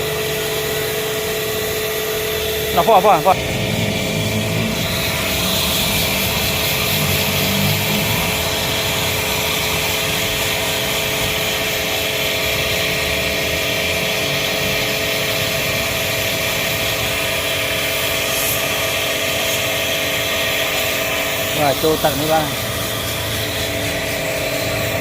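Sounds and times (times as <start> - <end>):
machine humming and hissing: 0.0 - 25.0.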